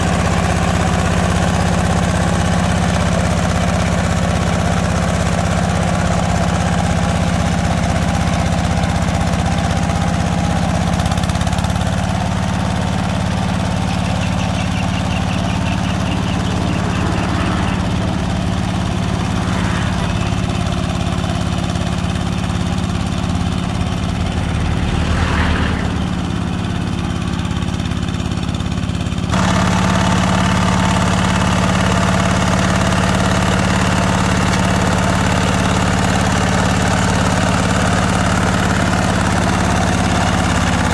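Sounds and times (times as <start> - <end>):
hand tractor engine running: 0.0 - 25.3, 26.2 - 40.9.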